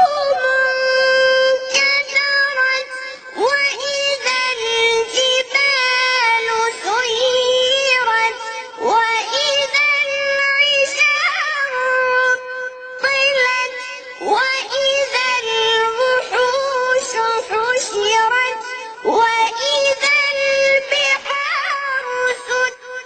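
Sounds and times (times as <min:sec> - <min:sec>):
child chanting melodically: 0:00.0 - 0:23.0.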